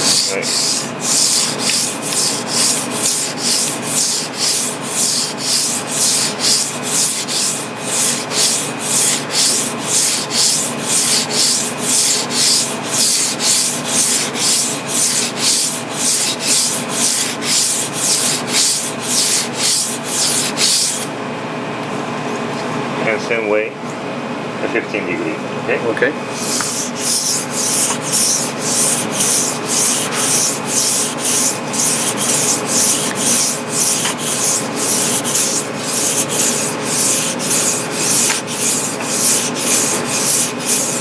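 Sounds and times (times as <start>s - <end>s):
knife scraping on whetstone: 0.0s - 21.1s, 26.3s - 41.0s.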